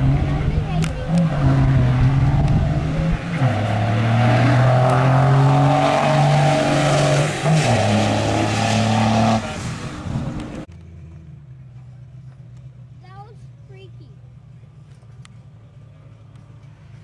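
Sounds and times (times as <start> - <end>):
diesel truck engine at full throttle: 0.0 - 17.0.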